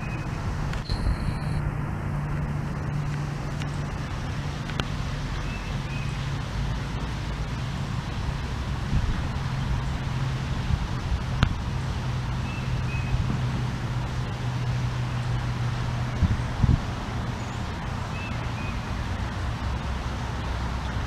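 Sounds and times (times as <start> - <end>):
low hum and rumble: 0.0 - 21.0.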